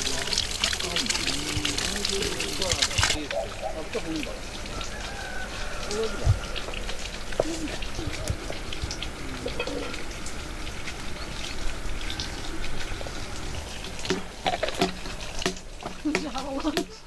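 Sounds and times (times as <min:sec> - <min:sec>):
hot water pouring into teapot: 0:00.0 - 0:17.0.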